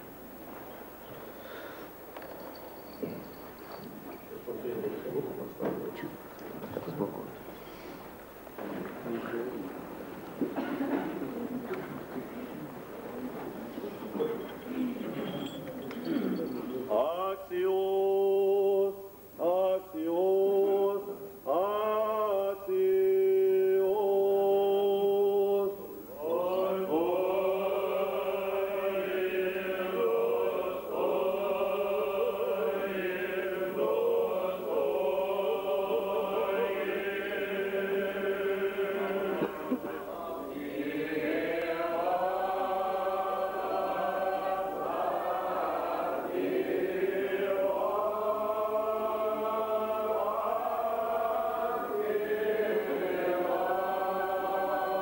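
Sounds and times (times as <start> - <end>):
church choir chanting: 8.6 - 55.0.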